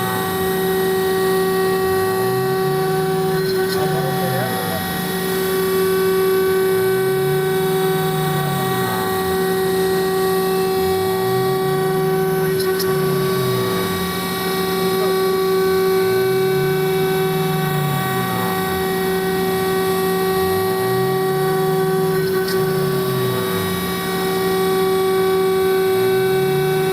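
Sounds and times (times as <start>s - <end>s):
router spindle high whine: 0.0s - 26.9s.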